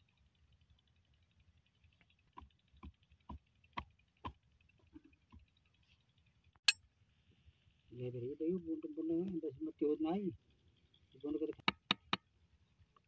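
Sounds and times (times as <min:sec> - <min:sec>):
faint fast high ticking: 0:00.0 - 0:13.0.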